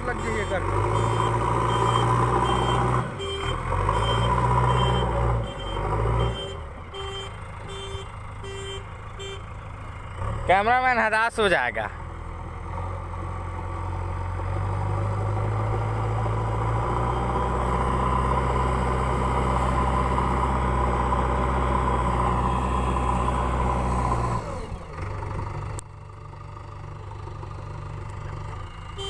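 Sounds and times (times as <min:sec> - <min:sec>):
diesel engine running at high revs: 0:00.0 - 0:29.0.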